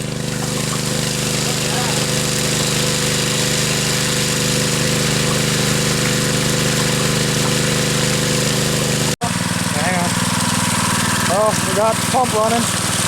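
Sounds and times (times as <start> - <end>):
water pump engine running: 0.0 - 13.0.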